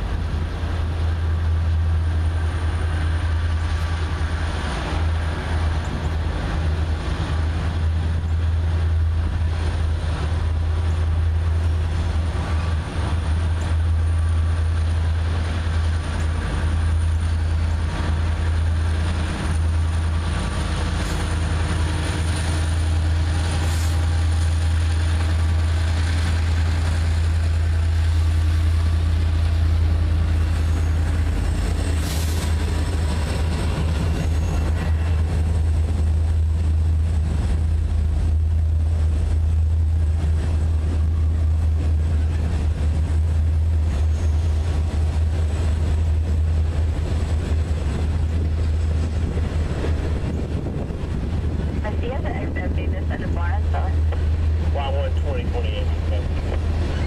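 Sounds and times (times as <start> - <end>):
locomotive engine rumble: 0.0 - 57.0
rail and wheel noise: 0.0 - 57.0.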